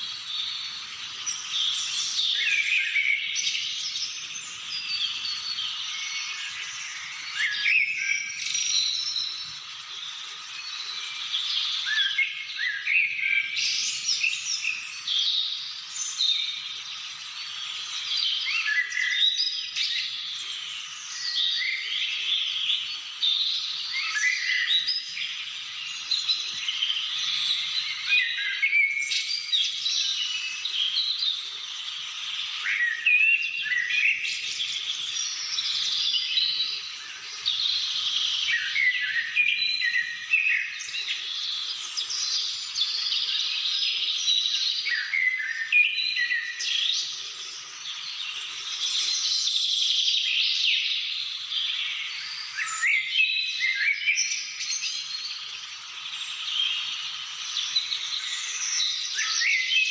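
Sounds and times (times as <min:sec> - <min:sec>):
small birds chirping and trilling: 0:00.0 - 0:59.9.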